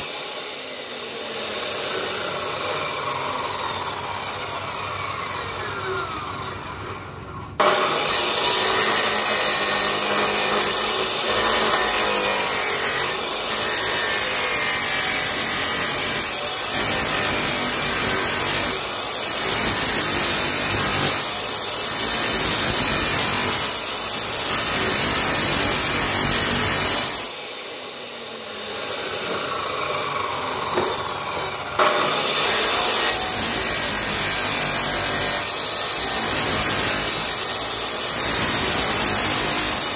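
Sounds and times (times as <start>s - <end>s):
cut-off saw grinding metal: 0.0s - 39.9s.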